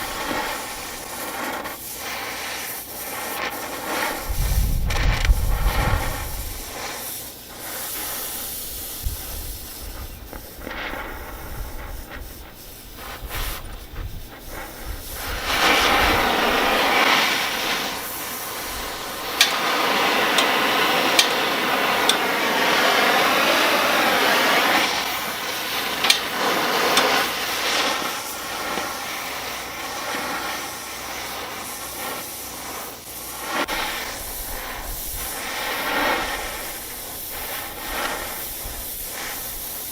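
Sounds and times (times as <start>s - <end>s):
gas torch hissing: 0.0s - 39.9s.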